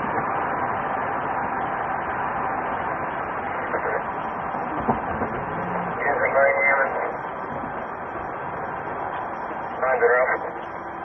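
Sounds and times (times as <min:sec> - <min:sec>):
car road noise from inside: 0:00.0 - 0:11.0.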